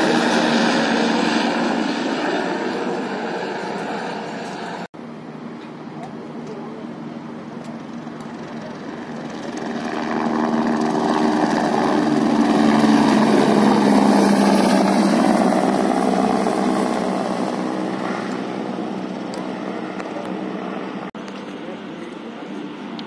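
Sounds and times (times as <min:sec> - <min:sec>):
helicopter flying past: 0:00.0 - 0:23.0.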